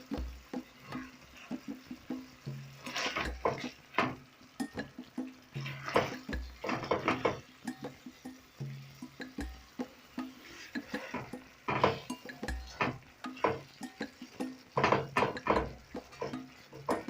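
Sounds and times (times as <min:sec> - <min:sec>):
spoon clinking against pot: 0:02.8 - 0:17.0.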